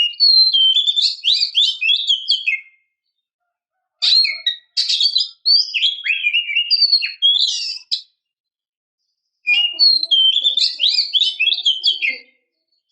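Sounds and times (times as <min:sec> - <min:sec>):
bird singing whistles and warbles: 0:00.0 - 0:03.0, 0:04.0 - 0:08.2, 0:09.4 - 0:12.9.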